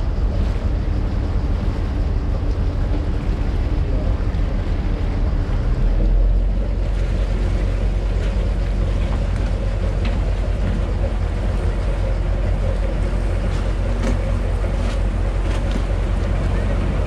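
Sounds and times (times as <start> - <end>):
boat diesel engine rumbling: 0.0 - 17.0
water rushing along hull: 0.0 - 17.0.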